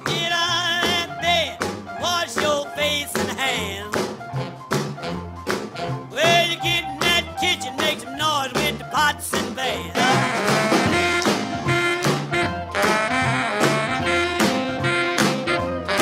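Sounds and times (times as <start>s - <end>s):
upbeat background music: 0.0s - 16.0s.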